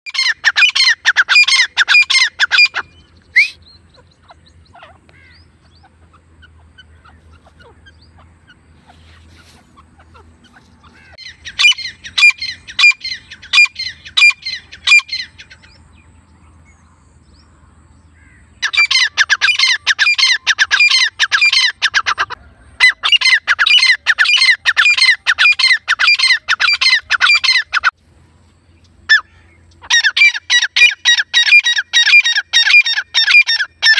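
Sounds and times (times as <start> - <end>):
francolins calling shrilly: 0.1 - 28.0, 28.7 - 33.9.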